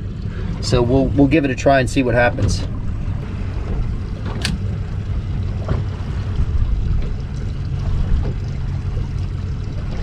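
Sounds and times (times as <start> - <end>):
boat engine rumble: 0.0 - 10.0.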